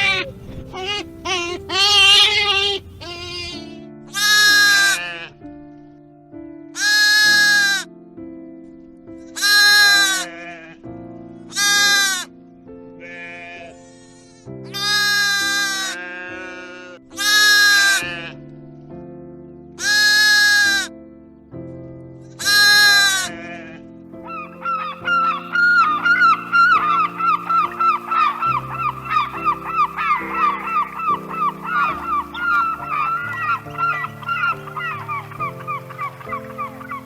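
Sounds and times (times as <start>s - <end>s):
livestock bleating: 0.0s - 5.4s, 6.8s - 7.9s, 9.4s - 10.8s, 11.5s - 12.3s, 13.0s - 18.4s, 19.8s - 20.9s, 22.4s - 37.0s
background music with sustained chords: 0.0s - 37.0s.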